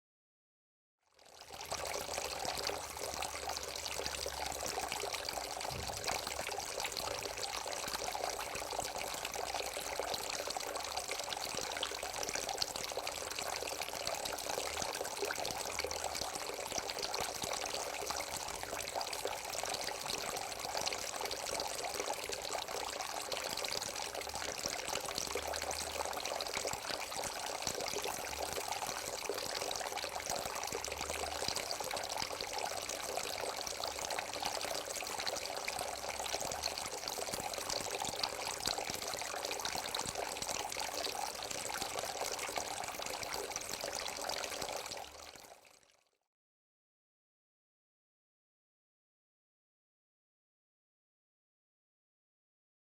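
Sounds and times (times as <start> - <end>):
fountain water splashing: 1.4 - 45.2.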